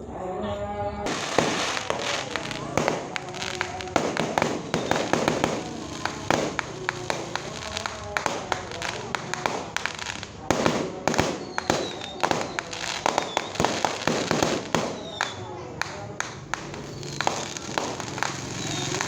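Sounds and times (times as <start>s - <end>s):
fireworks bangs and crackling: 1.0s - 19.0s.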